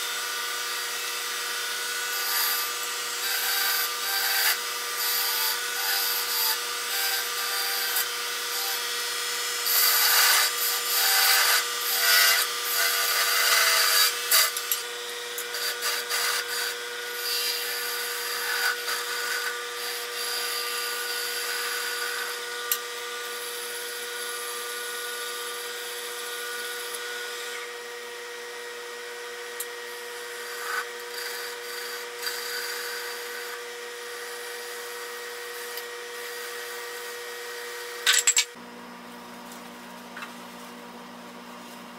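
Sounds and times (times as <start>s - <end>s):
lathe humming: 0.0s - 38.6s.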